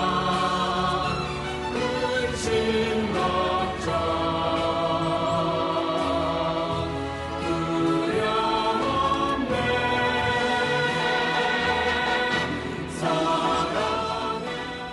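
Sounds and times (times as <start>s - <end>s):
choir singing held chords: 0.0s - 14.9s.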